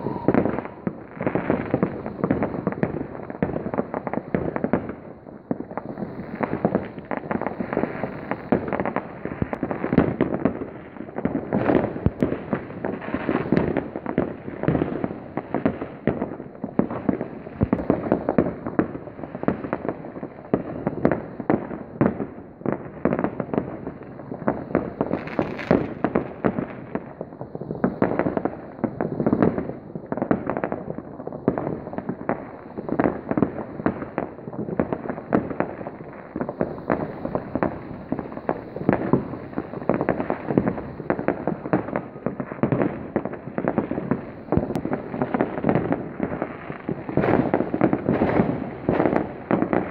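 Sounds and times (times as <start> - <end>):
sharp firework crack: 0.0 - 20.0, 24.4 - 30.8, 31.5 - 49.9
fireworks crackling and popping: 0.0 - 49.9.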